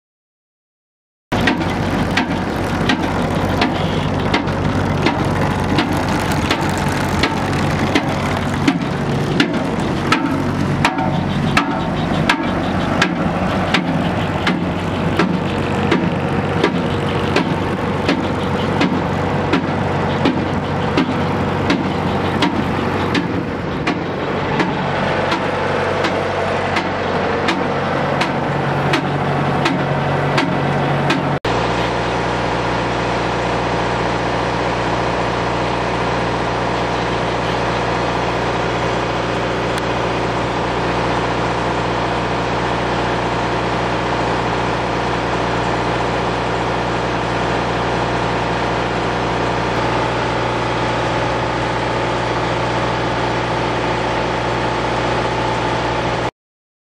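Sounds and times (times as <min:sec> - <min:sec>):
tractor engine running: 0:01.3 - 0:56.3.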